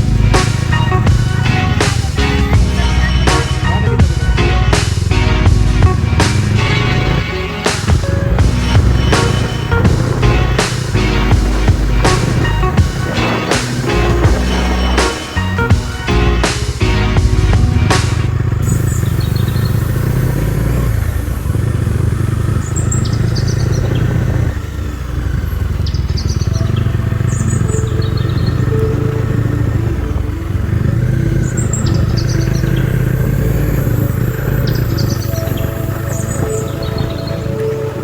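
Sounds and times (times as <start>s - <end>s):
birds chirping: 0.0s - 38.0s
motorcycle engine running: 0.0s - 38.0s.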